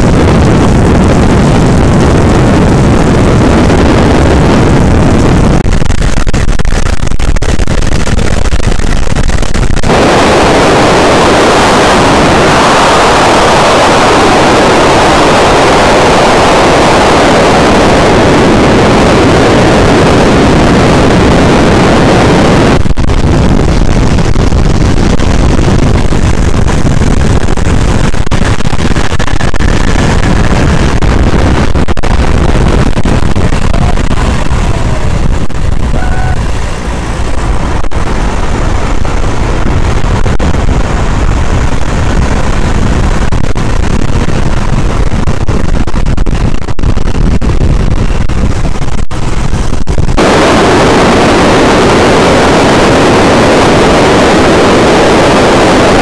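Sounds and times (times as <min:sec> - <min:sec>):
aircraft engine running: 0:00.0 - 0:56.0
wind buffeting microphone: 0:00.0 - 0:56.0.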